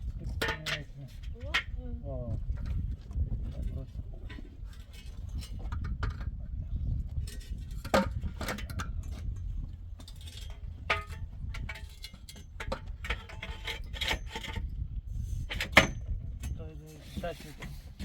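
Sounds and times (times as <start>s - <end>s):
tools knocking and scraping: 0.2s - 1.8s, 3.5s - 6.4s, 7.1s - 14.7s, 15.3s - 18.0s.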